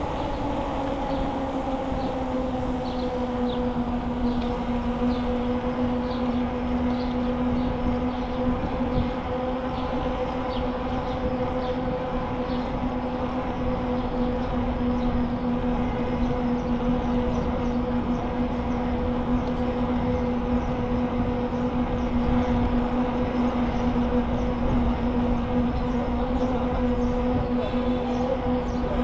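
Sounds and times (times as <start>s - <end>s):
bicycle tyres and drivetrain hum: 0.0s - 29.0s.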